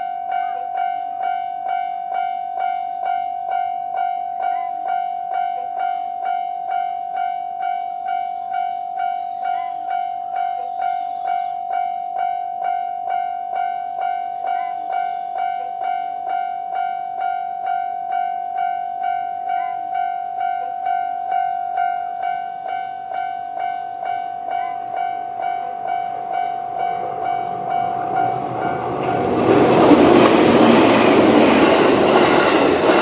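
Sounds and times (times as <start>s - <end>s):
level crossing warning bell: 0.0s - 33.0s.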